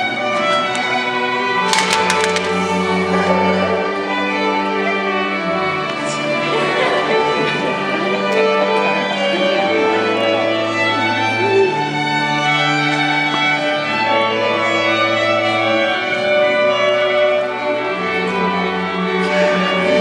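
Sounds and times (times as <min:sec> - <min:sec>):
slow violin string music: 0:00.0 - 0:20.0.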